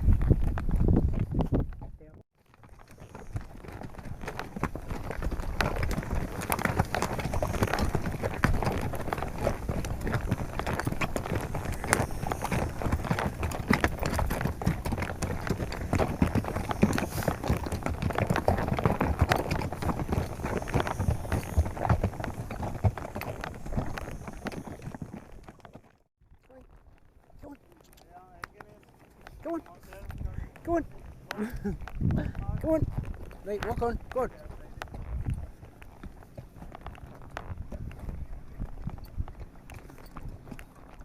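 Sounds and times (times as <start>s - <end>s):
horse hooves clip-clopping: 0.0s - 41.0s.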